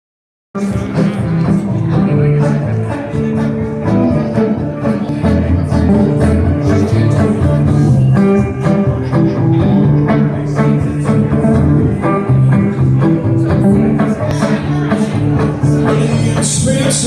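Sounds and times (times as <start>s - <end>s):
acoustic guitars strumming: 0.6s - 17.0s
sustained bass notes: 0.6s - 17.0s.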